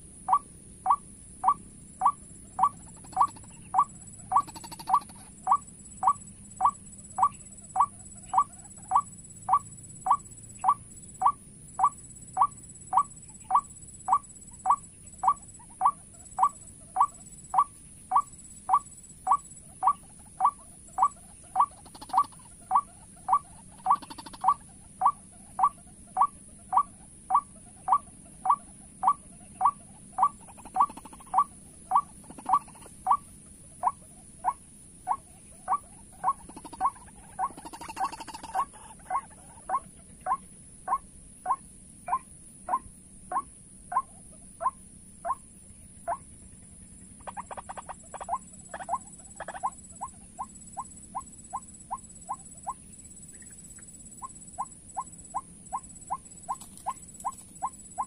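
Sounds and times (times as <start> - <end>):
recorded bird call repeating: 0.3 - 46.2, 47.1 - 58.0.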